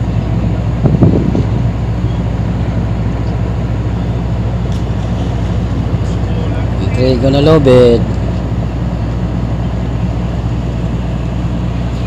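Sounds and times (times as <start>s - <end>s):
ship engine droning: 0.0s - 12.0s.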